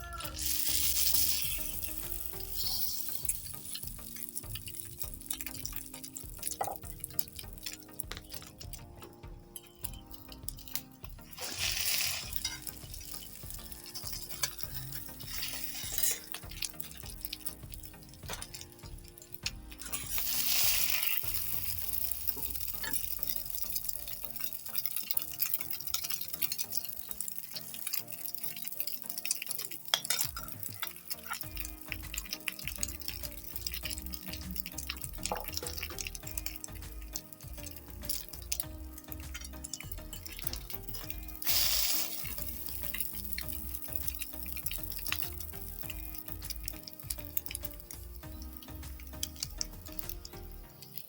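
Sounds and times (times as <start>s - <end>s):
faint background music: 0.0s - 51.0s
liquid kitchen sounds: 0.0s - 51.0s
scraping or sizzling: 0.0s - 51.0s
utensil clinking against bowl: 0.2s - 51.0s.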